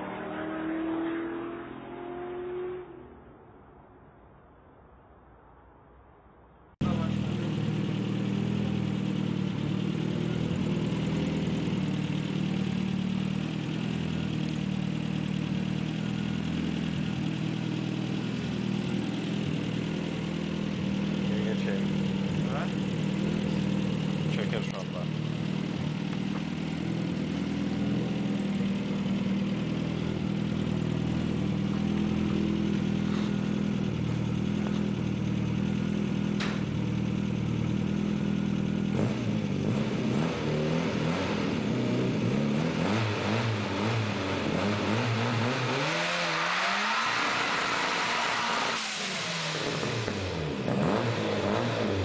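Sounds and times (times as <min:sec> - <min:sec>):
car engine idling and revving: 0:00.0 - 0:03.8, 0:06.7 - 0:52.0.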